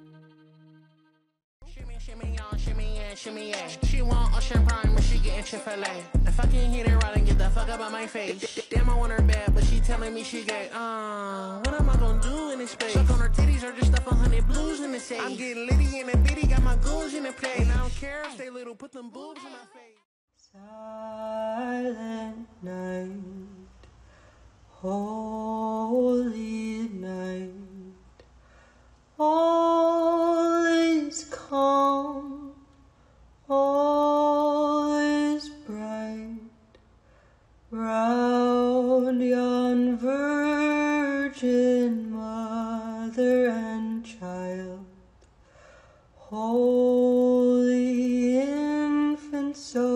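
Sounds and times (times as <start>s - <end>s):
woman singing slow melody: 1.7s - 18.5s, 19.2s - 23.9s, 24.7s - 28.2s, 29.2s - 32.8s, 33.4s - 36.7s, 37.7s - 45.1s, 46.2s - 49.9s.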